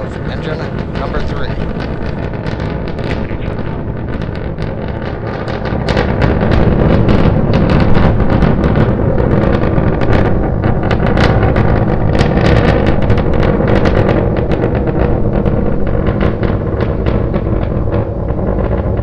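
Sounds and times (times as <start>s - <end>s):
rocket engines crackling rumble: 0.0s - 19.0s.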